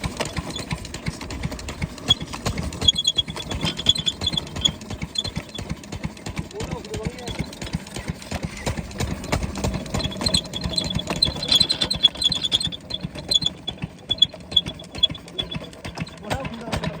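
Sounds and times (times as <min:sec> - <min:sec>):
diesel pump engine knocking: 0:00.0 - 0:17.0
high ticks: 0:00.2 - 0:06.6, 0:07.3 - 0:16.6.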